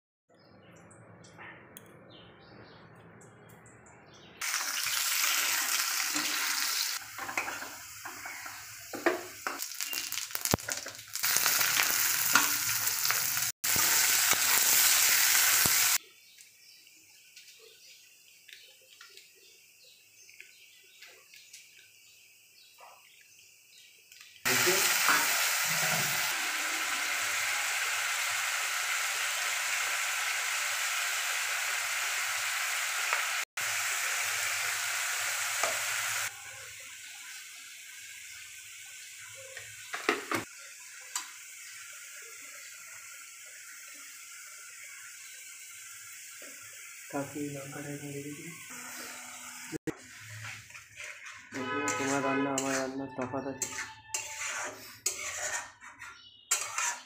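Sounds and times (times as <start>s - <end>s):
spice paste sizzling in oil: 4.4s - 51.5s, 52.6s - 52.8s, 53.6s - 55.7s, 56.3s - 57.0s.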